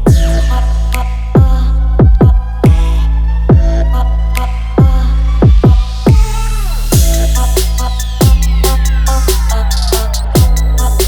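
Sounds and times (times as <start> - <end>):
dubstep dance music: 0.0 - 11.0.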